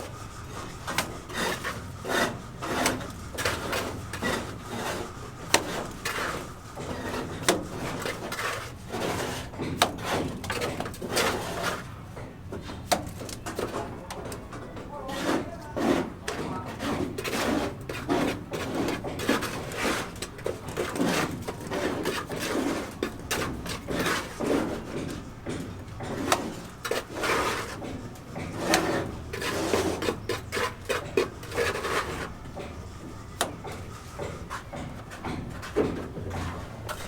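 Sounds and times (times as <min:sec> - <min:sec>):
knocking and scraping: 0:00.0 - 0:37.0.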